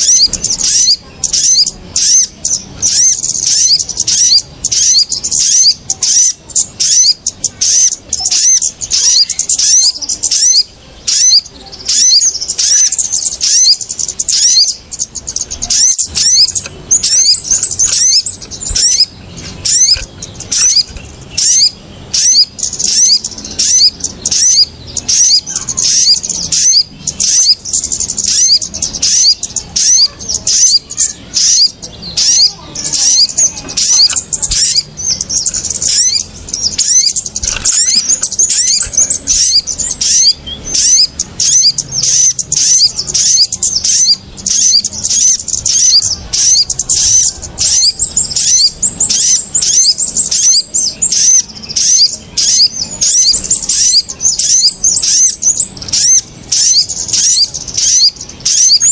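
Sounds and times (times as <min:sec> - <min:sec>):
songbirds chirping rapidly: 0:00.0 - 0:58.9.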